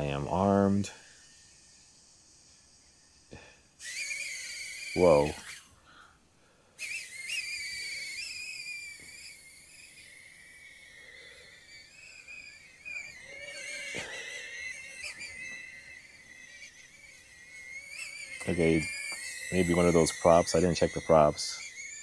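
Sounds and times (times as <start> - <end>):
quadcopter propellers whining: 0.0 - 6.0, 6.8 - 22.0.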